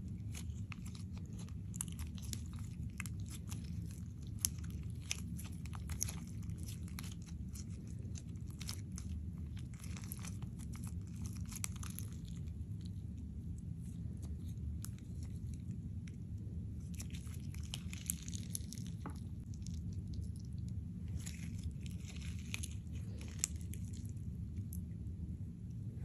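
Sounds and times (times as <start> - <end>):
slime squishing and popping: 0.0 - 24.9
low hum: 0.0 - 26.0.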